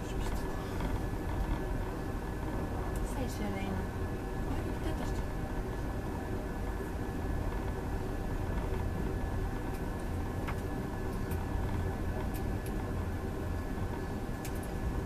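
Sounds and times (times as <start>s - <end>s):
faint steady whine: 0.0s - 15.0s.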